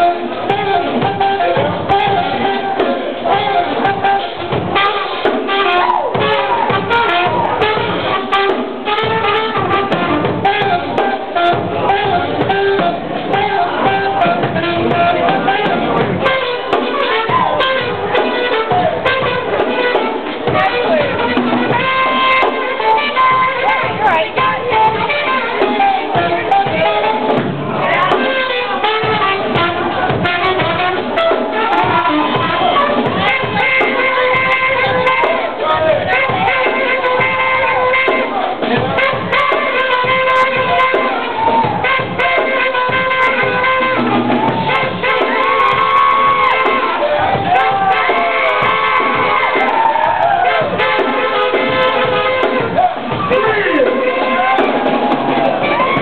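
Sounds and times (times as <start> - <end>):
drum kit: 0.0 - 56.0
live blues-funk band: 0.0 - 56.0
saxophone melody: 0.0 - 56.0.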